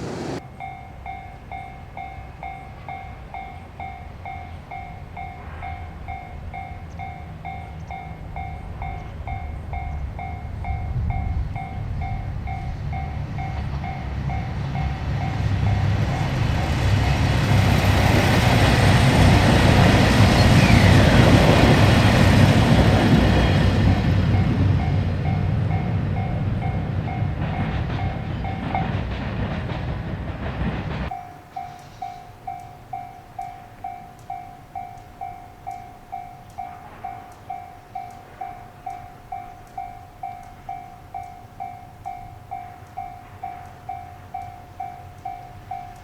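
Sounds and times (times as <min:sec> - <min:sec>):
level-crossing bell clanging: 0:00.0 - 0:29.5, 0:31.1 - 0:46.0
train rumbling on rails: 0:00.0 - 0:46.0.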